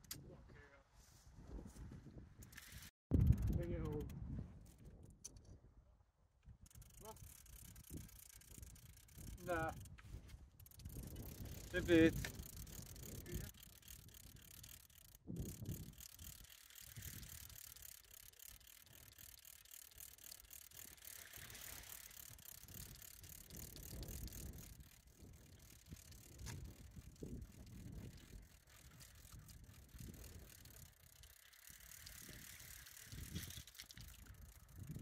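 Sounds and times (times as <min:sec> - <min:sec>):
fishing reel ticking: 0:02.4 - 0:05.4, 0:06.4 - 0:35.0.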